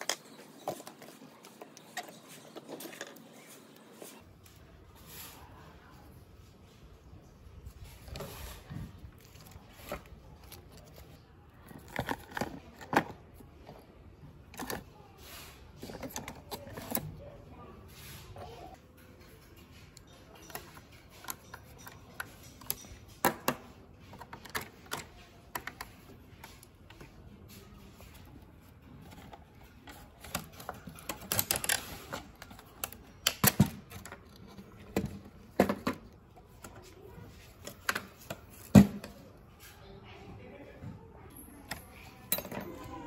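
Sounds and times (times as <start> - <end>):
plastic parts clattering: 0.0 - 4.5, 7.7 - 39.6.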